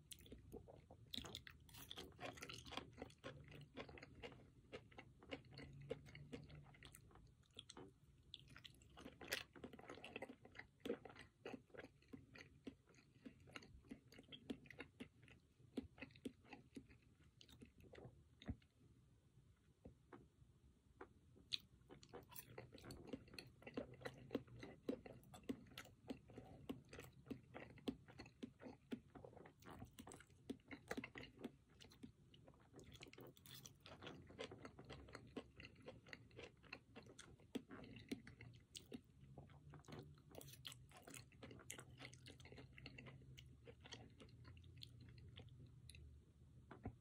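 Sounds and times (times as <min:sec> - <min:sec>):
chewing roasted potato: 0:00.0 - 0:18.9, 0:21.0 - 0:47.0.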